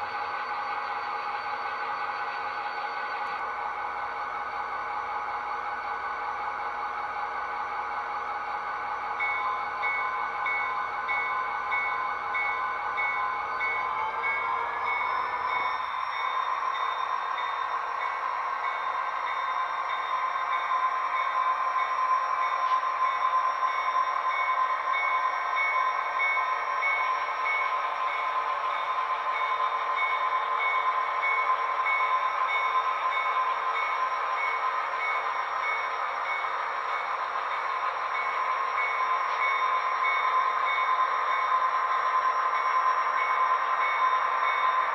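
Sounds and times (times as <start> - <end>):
train running with whine: 0.0 - 44.9.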